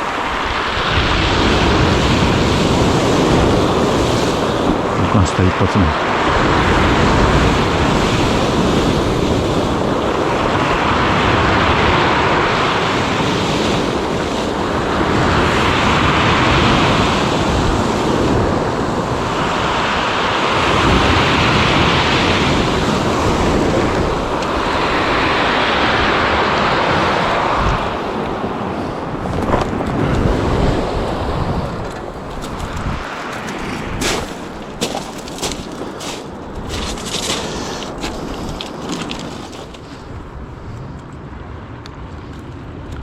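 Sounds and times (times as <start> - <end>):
sea waves breaking on shore: 0.0 - 40.7
wind buffeting the microphone: 0.0 - 43.0.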